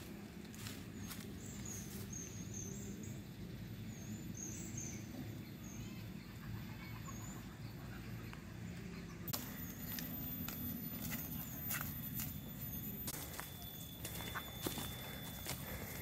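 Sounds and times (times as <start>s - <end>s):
low background hum: 0.0s - 16.0s
small bird chirping: 0.6s - 16.0s.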